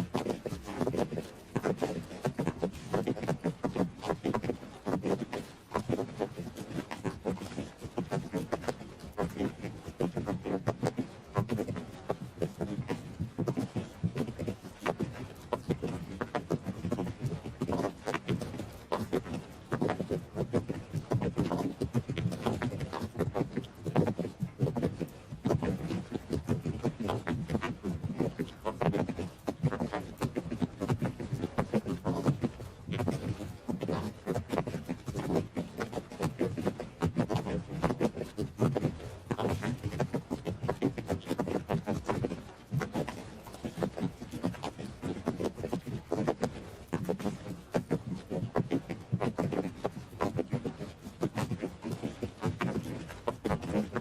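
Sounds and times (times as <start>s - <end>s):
horse hooves galloping: 0.0s - 54.0s.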